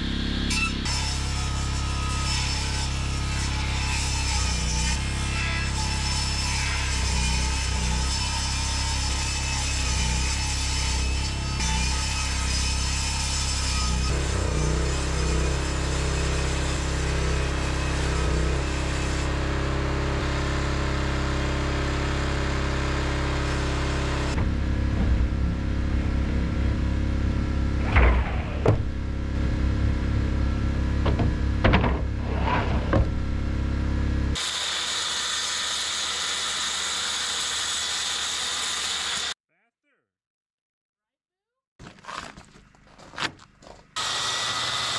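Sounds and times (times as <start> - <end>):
circular saw cutting: 0.0 - 39.4, 44.0 - 44.9.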